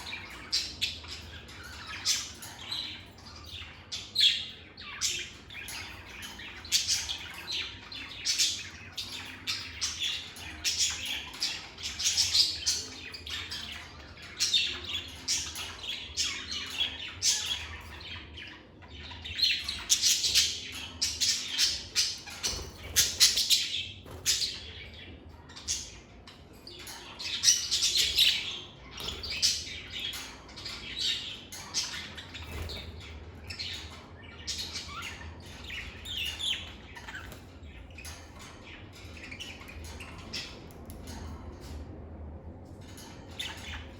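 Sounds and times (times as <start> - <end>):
lovebirds chirping and squawking: 0.0 - 43.9.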